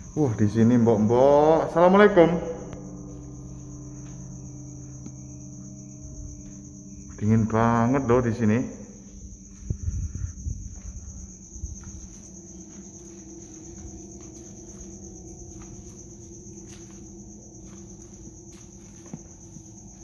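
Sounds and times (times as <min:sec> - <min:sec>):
crickets chirring: 0:00.0 - 0:20.0
low steady hum: 0:00.0 - 0:20.0.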